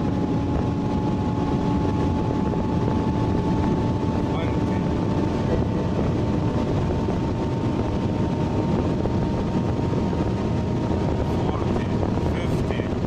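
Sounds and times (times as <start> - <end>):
car engine at high revs: 0.0 - 13.0
wind and road noise: 0.0 - 13.0.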